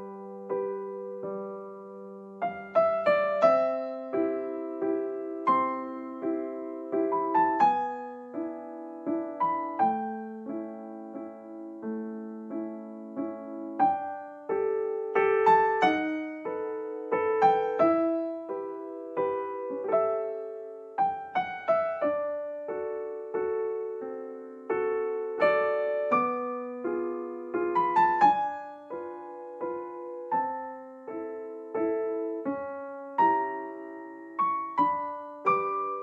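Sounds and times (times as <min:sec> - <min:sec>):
soft piano music: 0:00.0 - 0:36.0.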